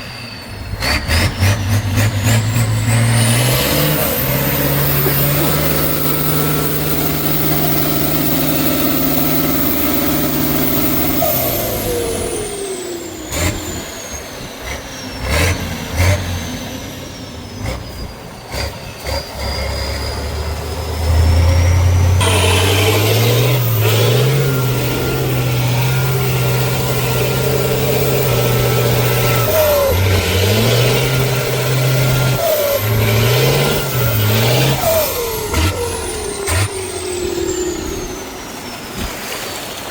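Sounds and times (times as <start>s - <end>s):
truck engine revving: 0.0s - 39.2s.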